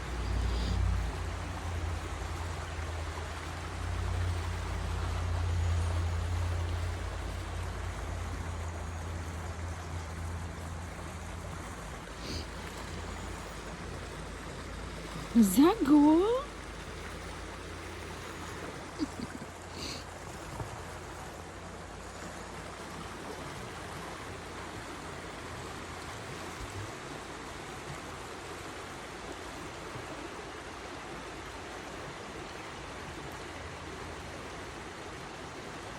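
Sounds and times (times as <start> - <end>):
stream water running: 0.0 - 35.9.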